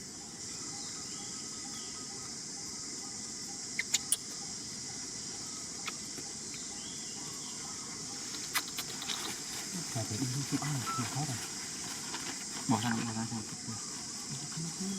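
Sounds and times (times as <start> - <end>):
insects droning: 0.0 - 14.9.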